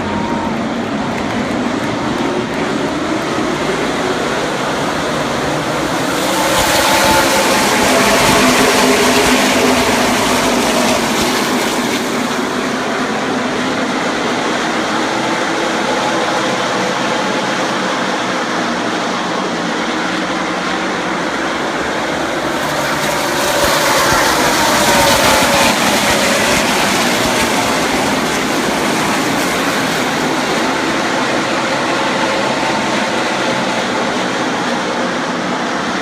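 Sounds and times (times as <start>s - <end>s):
race truck engines at speed: 0.0s - 36.0s.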